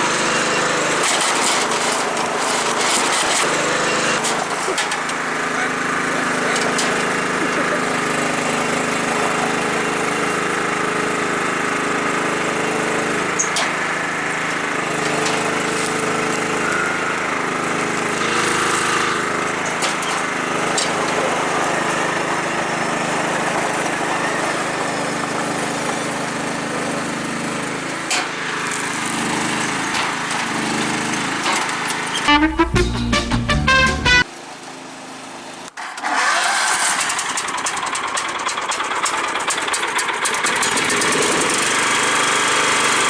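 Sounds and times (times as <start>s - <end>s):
lawn tractor engine running: 0.0s - 43.0s.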